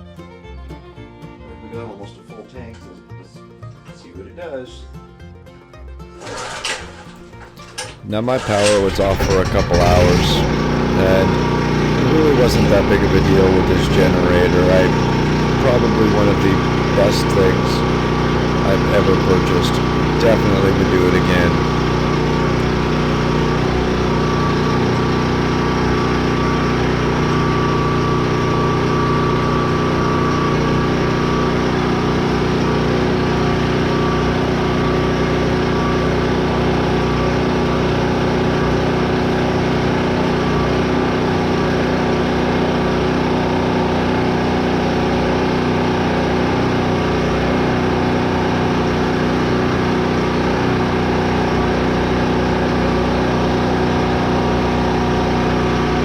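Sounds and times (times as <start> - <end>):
generator engine humming: 6.0 - 56.0.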